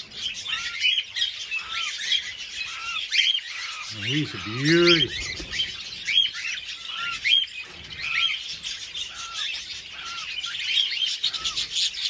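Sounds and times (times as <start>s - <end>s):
cockatiels chirping: 0.0s - 12.0s.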